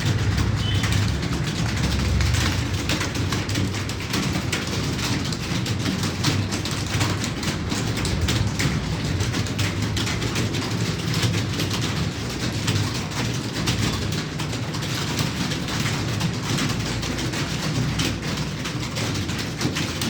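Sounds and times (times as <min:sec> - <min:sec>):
fast typing on keyboards: 0:00.0 - 0:20.0.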